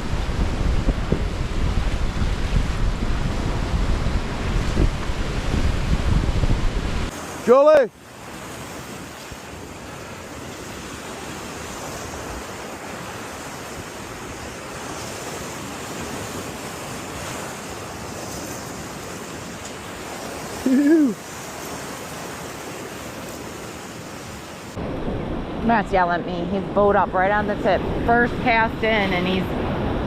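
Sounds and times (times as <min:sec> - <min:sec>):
wind on microphone: 0:00.0 - 0:07.4, 0:08.2 - 0:30.0
ocean surf washing: 0:00.0 - 0:30.0.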